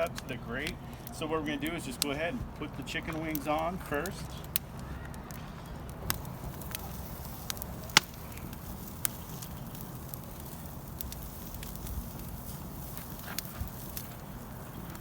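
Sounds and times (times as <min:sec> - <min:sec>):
campfire burning: 0:00.0 - 0:15.0
fire popping and crackling: 0:00.0 - 0:15.0.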